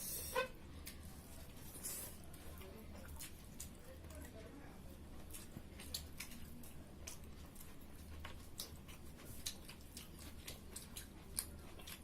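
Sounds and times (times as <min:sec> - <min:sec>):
faint low hum: 0:00.0 - 0:12.0
people chewing a meal: 0:00.0 - 0:12.0.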